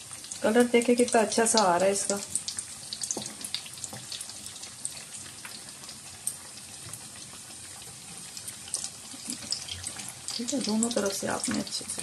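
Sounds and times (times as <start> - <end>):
cutlets sizzling in oil: 0.0 - 12.0.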